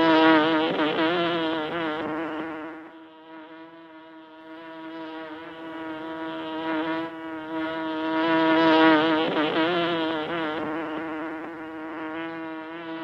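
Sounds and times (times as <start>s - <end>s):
bee buzzing in flight: 0.0s - 13.0s.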